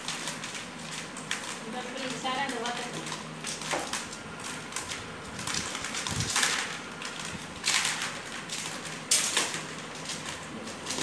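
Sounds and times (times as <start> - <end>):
maize kernels crackling rattle: 0.0 - 11.0.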